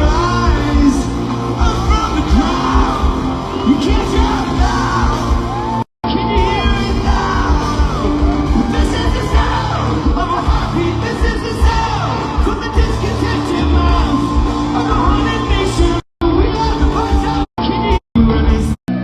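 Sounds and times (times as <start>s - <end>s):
live rock band playing: 0.0s - 18.7s
person singing and yelling: 0.0s - 18.8s.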